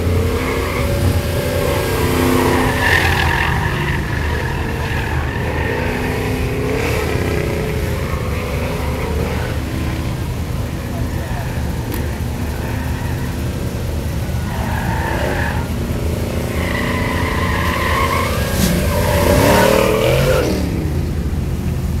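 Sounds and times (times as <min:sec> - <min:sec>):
tyre squeal: 0:00.0 - 0:20.6
car engine revving hard: 0:00.0 - 0:21.3.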